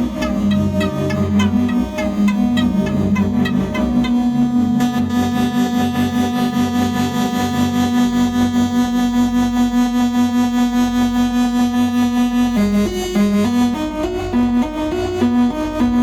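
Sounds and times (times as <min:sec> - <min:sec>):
buzzy synthesizer drone: 0:00.0 - 0:15.9.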